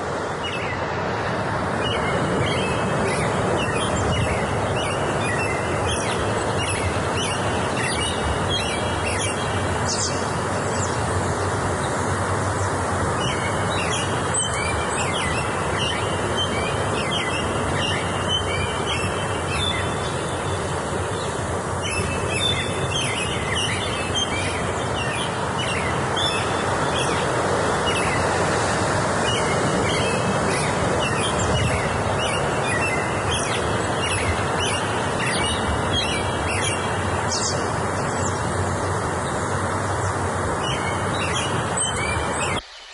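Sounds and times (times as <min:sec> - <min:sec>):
steady rushing background noise: 0:00.0 - 0:42.9
small birds chirping and singing: 0:01.8 - 0:42.9.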